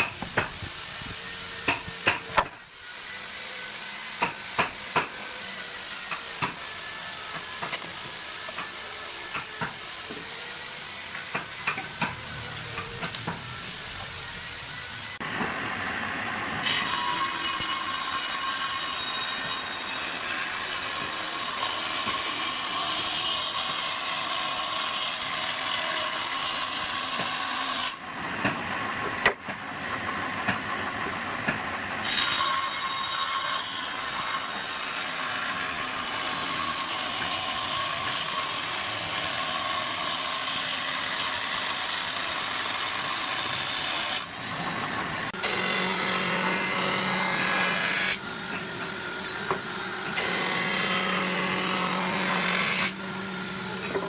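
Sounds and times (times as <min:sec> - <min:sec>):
power tools working wood: 0:00.0 - 0:54.0.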